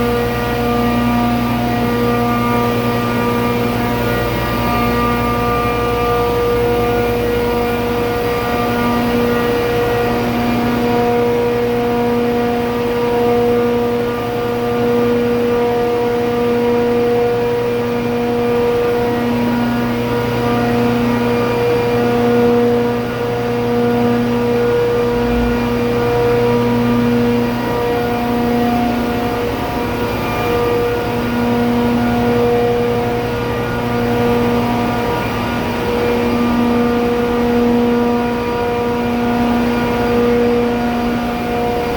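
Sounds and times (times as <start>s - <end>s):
compressor drone: 0.0s - 41.9s.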